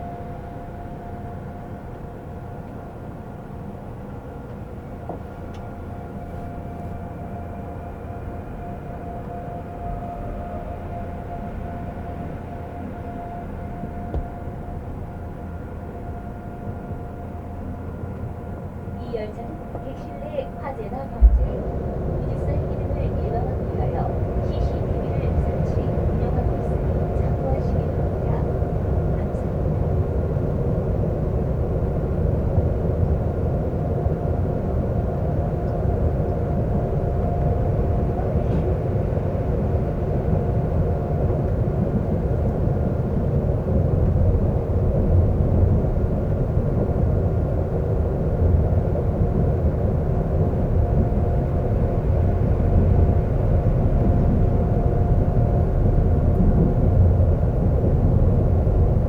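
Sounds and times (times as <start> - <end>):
faint steady whine: 0.0 - 59.0
subway train rumble: 0.0 - 59.0.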